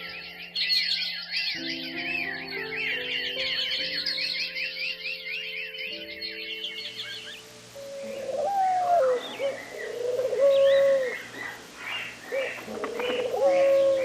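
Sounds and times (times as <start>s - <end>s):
birds calling: 0.0s - 14.0s
high bird chirps: 0.0s - 14.0s.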